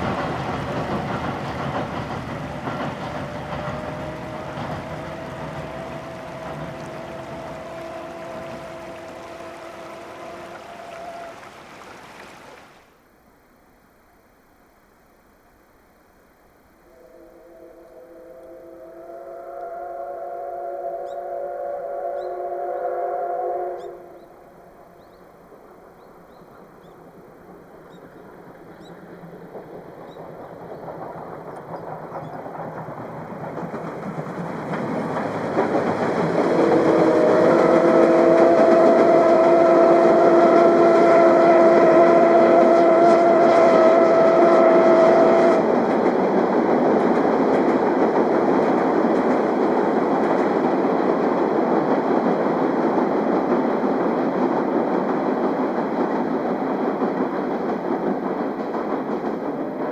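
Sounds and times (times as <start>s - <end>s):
train wheels rumbling: 0.0s - 12.8s, 16.9s - 59.9s.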